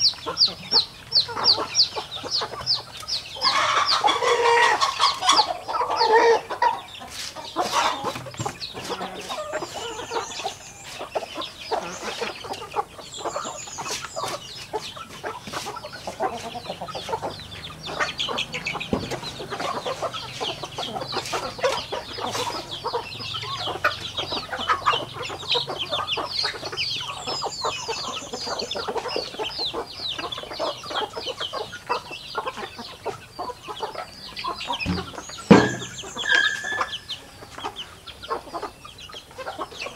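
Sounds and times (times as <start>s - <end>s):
chickens clucking and chirping: 0.0s - 39.9s
chickens pecking the ground: 0.0s - 39.9s.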